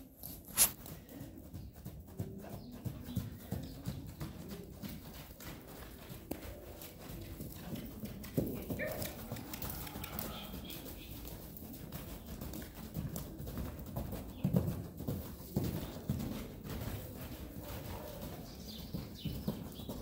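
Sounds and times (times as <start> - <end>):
hoofbeats on sand: 0.2 - 20.0.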